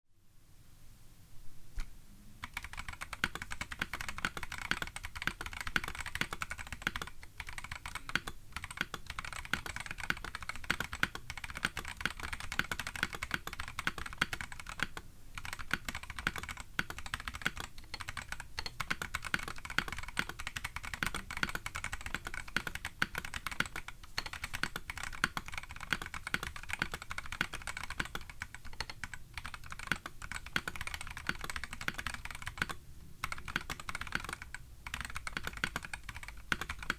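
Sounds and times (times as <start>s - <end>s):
mechanical keyboard typing: 2.4s - 36.9s.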